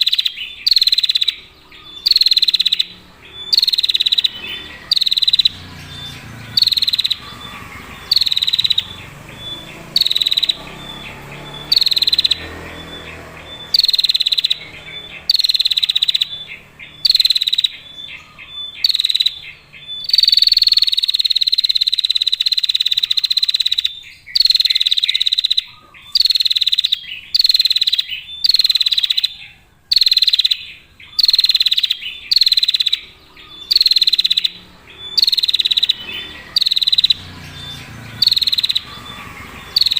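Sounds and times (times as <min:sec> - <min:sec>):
bird buzzy trilling call: 0:00.0 - 0:39.9.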